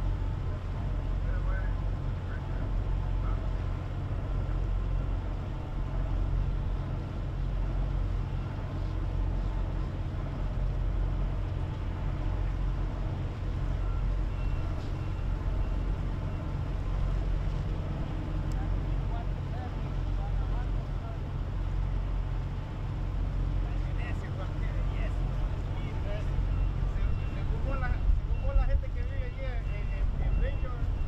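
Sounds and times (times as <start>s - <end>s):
ship diesel engines rumbling: 0.0s - 31.0s.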